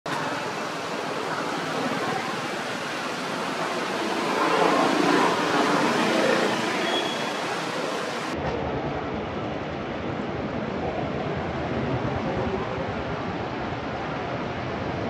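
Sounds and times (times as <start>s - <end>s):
steady rushing noise: 0.1s - 15.0s.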